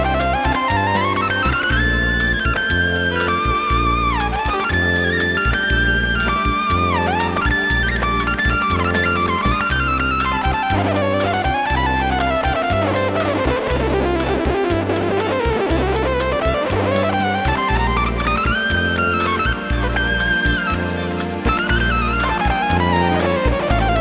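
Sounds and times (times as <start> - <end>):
drum kit: 0.0 - 24.0
repeating bass pattern: 0.0 - 24.0
synth guitar lead with pitch bends: 0.0 - 24.0.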